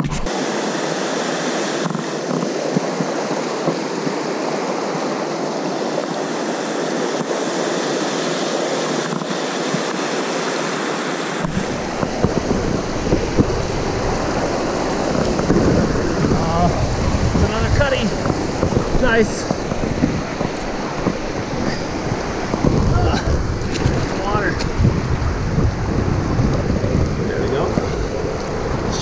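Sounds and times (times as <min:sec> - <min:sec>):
whitewater rushing over rocks: 0:00.0 - 0:29.0.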